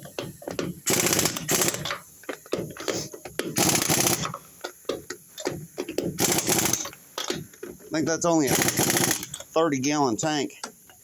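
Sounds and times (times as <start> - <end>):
pneumatic impact wrench rattling: 0.0 - 9.6.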